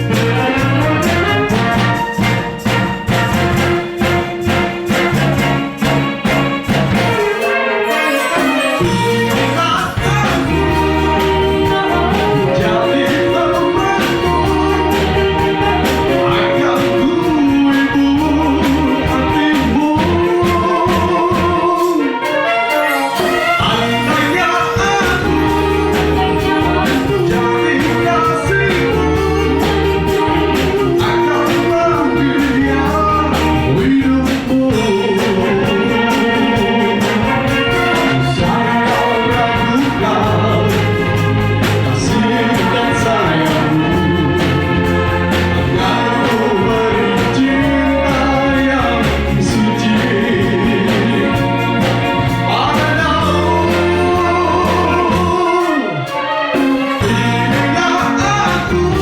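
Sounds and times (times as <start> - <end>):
band playing: 0.0 - 59.0
person singing: 7.0 - 59.0.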